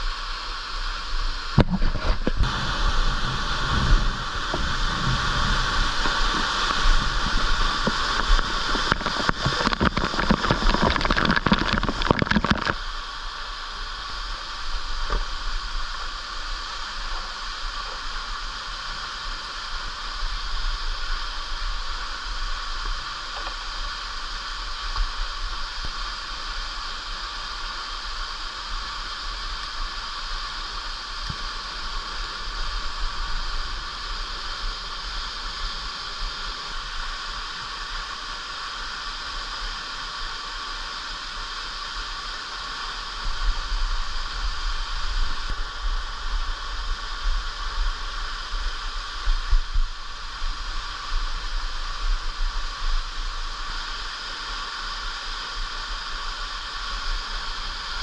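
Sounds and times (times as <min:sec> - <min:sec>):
stream and waterfall rushing: 0:00.0 - 0:58.0.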